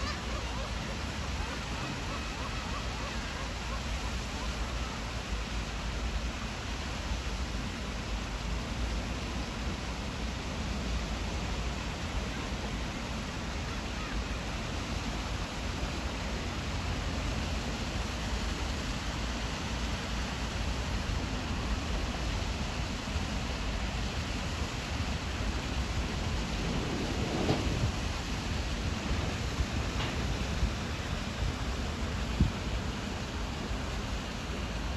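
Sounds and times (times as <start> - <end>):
sea waves at the shore: 0.0 - 34.9
wind: 0.0 - 34.9.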